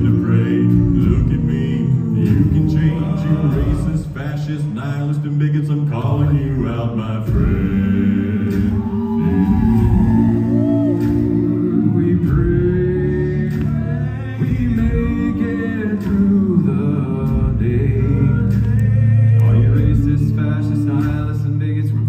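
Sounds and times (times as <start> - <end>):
beatboxed vocal percussion: 0.0 - 22.0
deep bass voice: 0.0 - 22.0
male a cappella group singing: 0.0 - 22.0.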